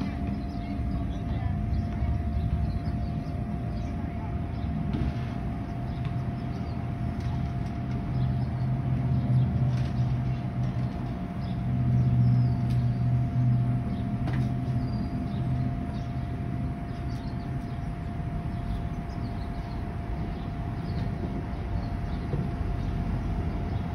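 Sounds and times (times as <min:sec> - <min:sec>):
deep rumble: 0:00.0 - 0:23.9.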